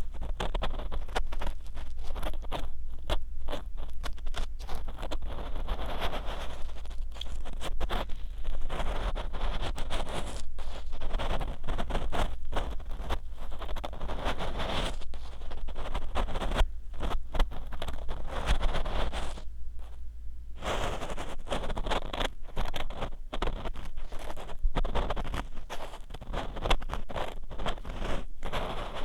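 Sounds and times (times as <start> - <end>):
ear pick scraping in ear: 0.0 - 20.0, 20.6 - 29.0.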